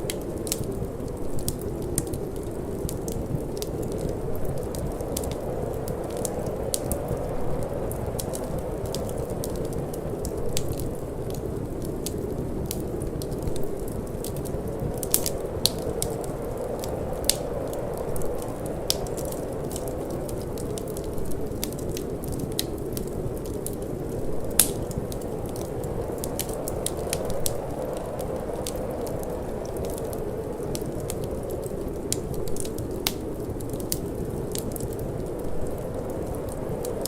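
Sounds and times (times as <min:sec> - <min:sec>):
low rush of wind: 0:00.0 - 0:37.0
wood fire crackling and popping: 0:00.0 - 0:37.0.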